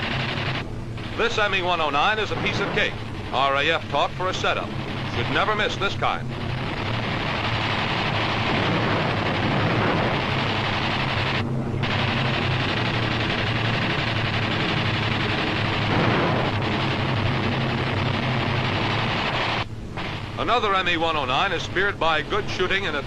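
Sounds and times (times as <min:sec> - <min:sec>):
machine guns firing: 0:00.0 - 0:21.9
aircraft engine drone: 0:00.0 - 0:23.0.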